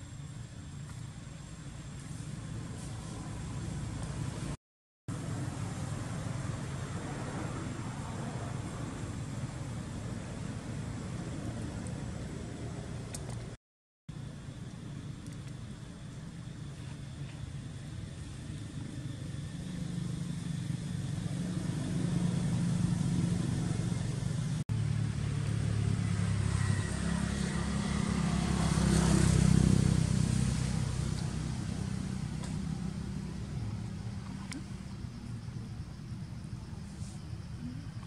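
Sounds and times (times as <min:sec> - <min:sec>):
vehicle engine rumble passing: 0:00.0 - 0:13.6, 0:15.7 - 0:38.0.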